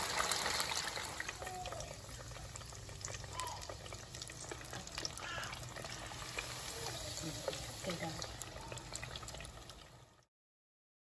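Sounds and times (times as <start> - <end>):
fries sizzling in hot oil: 0.0 - 10.3.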